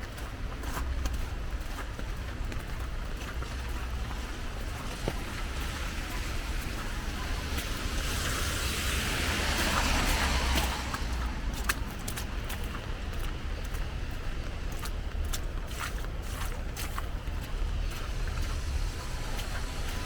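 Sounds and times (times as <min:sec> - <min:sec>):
faint footsteps: 0:00.0 - 0:20.0
car tyres hissing on wet street: 0:00.5 - 0:20.0.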